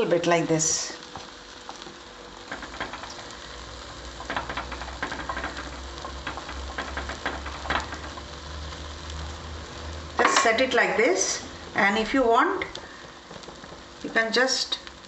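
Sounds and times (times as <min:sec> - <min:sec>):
batter sizzling in a pan: 0:00.0 - 0:15.0
low steady hum: 0:00.0 - 0:15.0.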